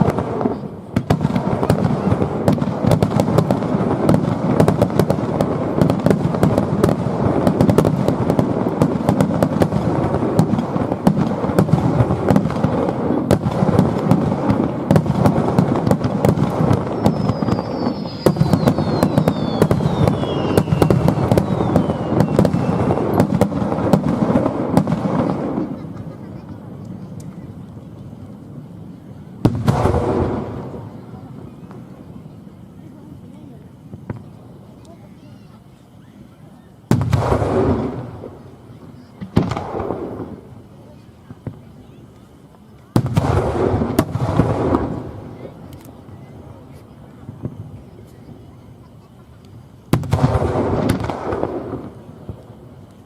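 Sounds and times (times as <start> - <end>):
fireworks bursts and crackling: 0.0 - 53.0
fireworks whistles gliding down: 0.0 - 53.0.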